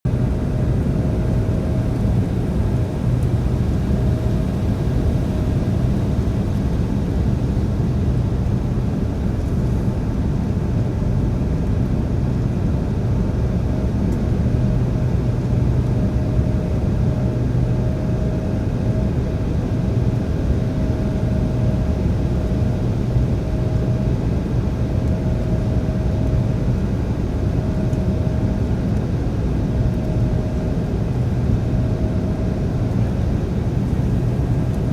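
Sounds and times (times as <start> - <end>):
jet engines in flight: 0.1 - 34.9.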